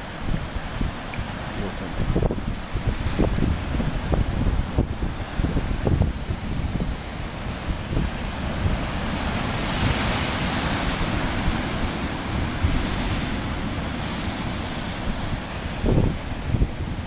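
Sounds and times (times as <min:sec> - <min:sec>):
surf breaking over rocks: 0:00.0 - 0:17.0
wind buffeting microphone: 0:00.0 - 0:17.0.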